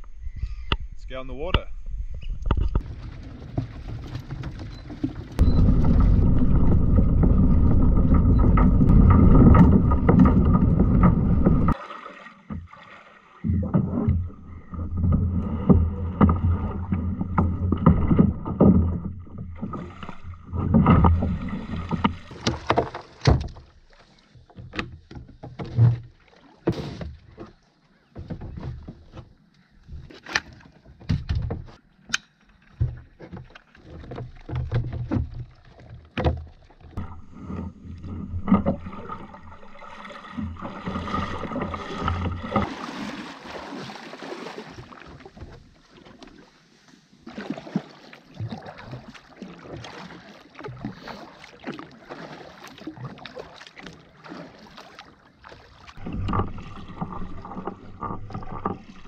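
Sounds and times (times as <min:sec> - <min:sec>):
wading through shallow water: 0:02.1 - 0:31.0, 0:31.7 - 0:59.0
paddle strokes splashing: 0:02.6 - 0:31.0, 0:31.7 - 0:59.0.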